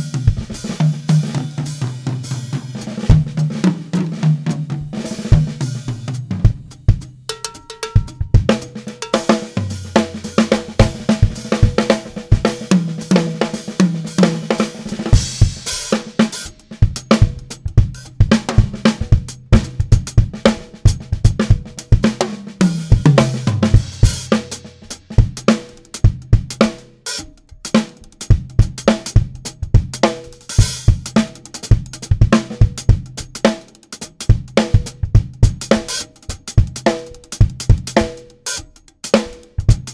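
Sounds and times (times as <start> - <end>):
hi-hat and cymbal hits: 0.0 - 39.9
melodic drum solo: 0.0 - 39.9.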